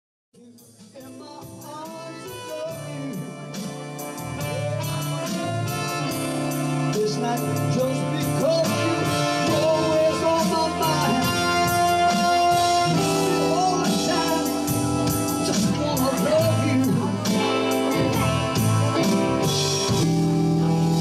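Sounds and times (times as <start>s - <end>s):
live band playing rock song: 0.4s - 21.0s
electric bass: 1.5s - 21.0s.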